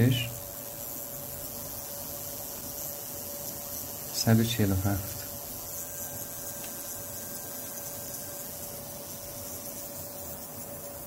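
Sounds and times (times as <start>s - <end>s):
fuel injector buzzing: 0.0s - 11.0s
steady hiss: 0.0s - 11.0s.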